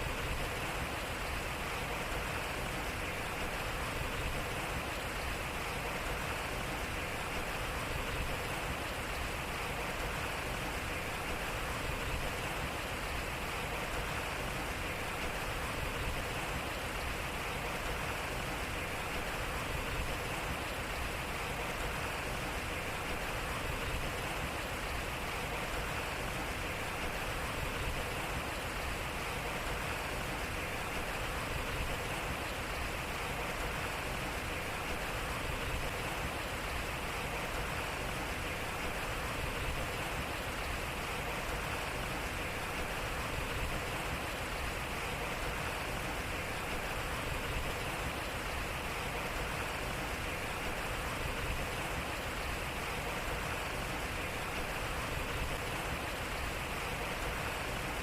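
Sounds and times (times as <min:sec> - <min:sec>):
water rushing through water wheel: 0:00.0 - 0:58.0.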